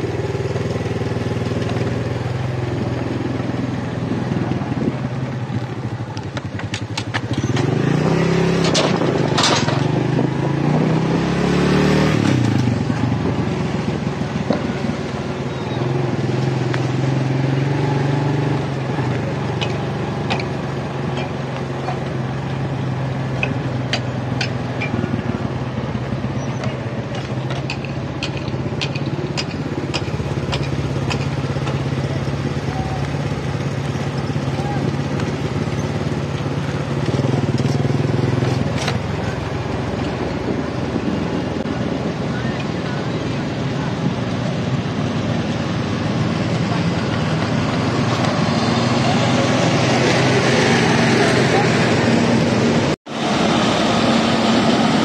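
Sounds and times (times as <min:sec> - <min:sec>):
truck engines running: 0:00.0 - 0:55.0
engine revving up: 0:07.3 - 0:55.0.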